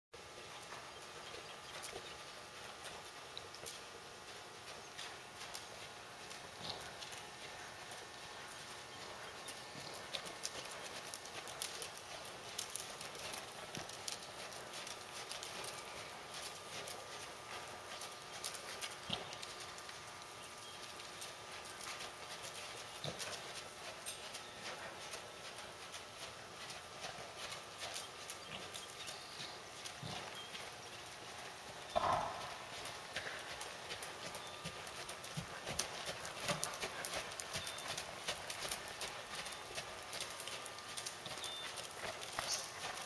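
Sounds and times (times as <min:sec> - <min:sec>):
horse hoofbeats on dirt: 0:00.2 - 0:43.0.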